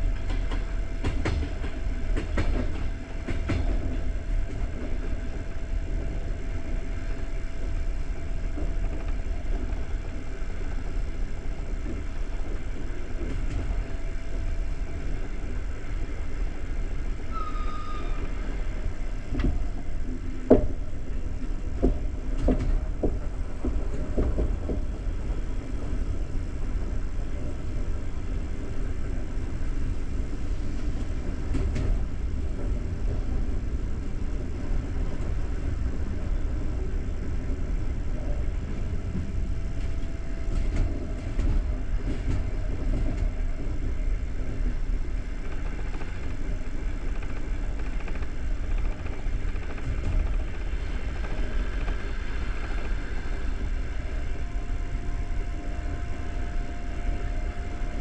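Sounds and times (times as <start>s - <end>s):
faint steady whine: 0.0s - 58.0s
train wheels rumbling on rails: 0.0s - 58.0s.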